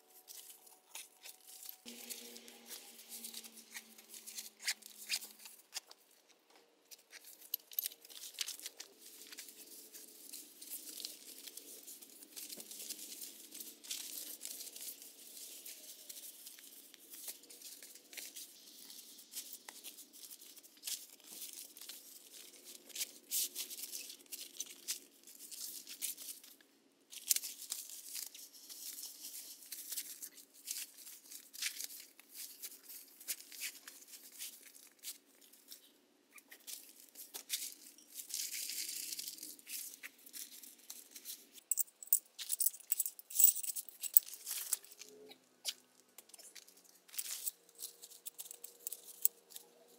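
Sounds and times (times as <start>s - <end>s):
bags rustling and crinkling: 0.0s - 6.3s, 7.0s - 35.9s, 36.6s - 45.2s.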